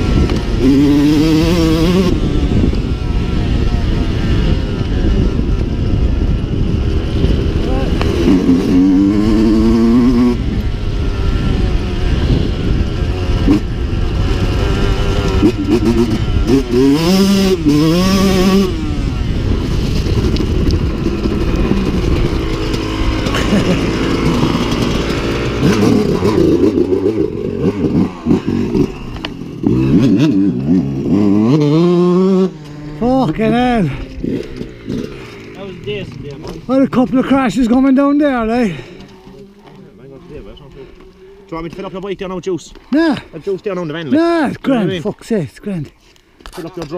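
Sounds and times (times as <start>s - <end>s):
dirt bike engine revving: 0.0s - 45.1s.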